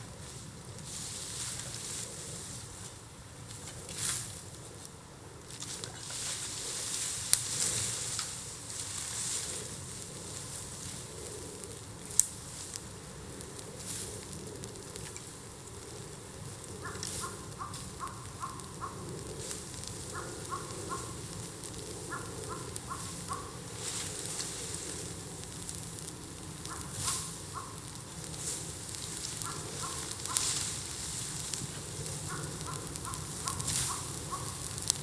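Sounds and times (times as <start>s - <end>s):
bonfire crackling: 0.0s - 35.0s
sharp pops from fire: 0.1s - 35.0s.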